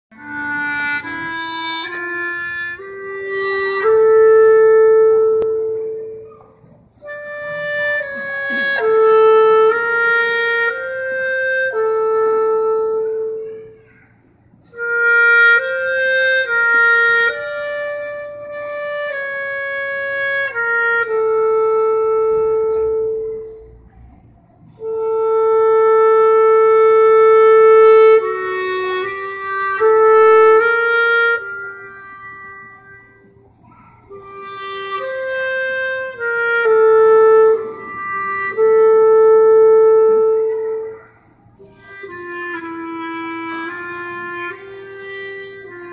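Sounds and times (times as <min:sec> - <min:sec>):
solo clarinet melody: 0:00.1 - 0:24.0, 0:24.6 - 0:45.9.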